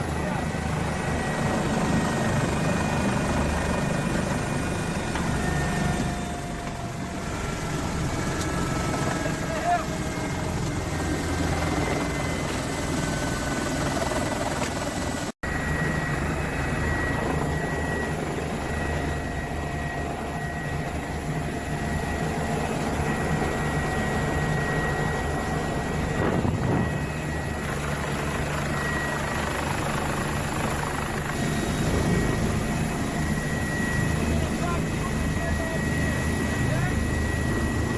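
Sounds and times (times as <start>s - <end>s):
helicopter rotor drone: 0.0s - 37.9s.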